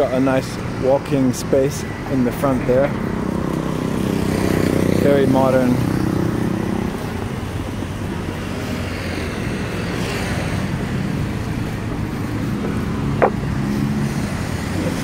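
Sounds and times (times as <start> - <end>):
cars and motorcycles passing: 0.0 - 15.0.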